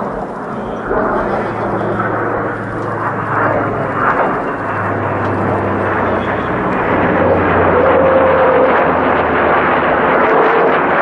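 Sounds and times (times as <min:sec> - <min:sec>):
aircraft engines droning: 0:00.0 - 0:11.0
low hum: 0:00.0 - 0:11.0.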